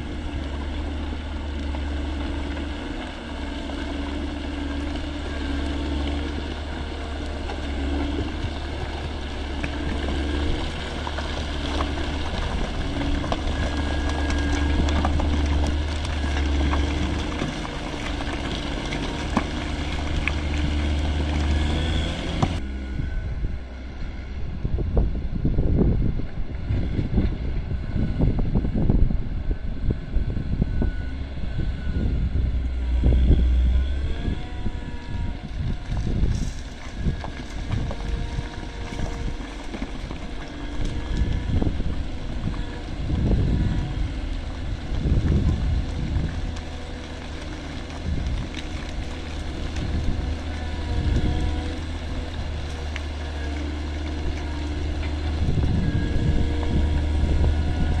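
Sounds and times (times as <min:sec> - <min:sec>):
diesel engine running under load: 0:00.0 - 0:58.0
wind buffeting microphone: 0:00.0 - 0:58.0.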